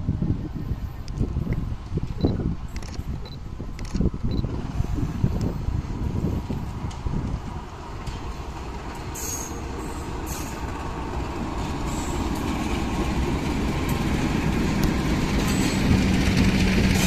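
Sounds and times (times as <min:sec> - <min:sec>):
diesel locomotive engine: 0:00.0 - 0:17.0
train coaches rumbling on rails: 0:00.0 - 0:17.0.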